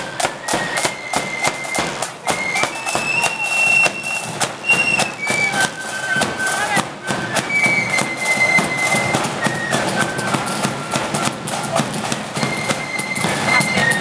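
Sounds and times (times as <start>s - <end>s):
flutes playing a tune: 0.0s - 14.0s
steady drum strikes: 0.0s - 14.0s.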